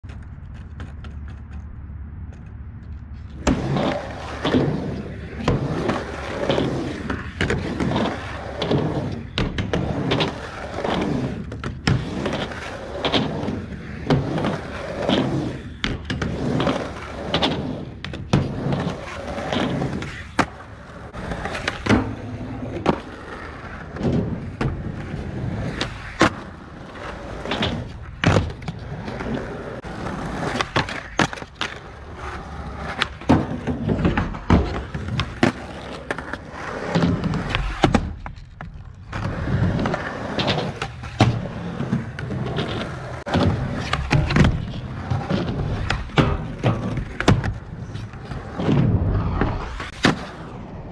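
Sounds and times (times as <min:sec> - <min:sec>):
skateboard popping and landing: 0:00.0 - 0:50.9
skateboard wheels rolling on concrete: 0:00.0 - 0:50.9
skateboard grinding on ledge: 0:03.3 - 0:38.2, 0:39.0 - 0:50.8.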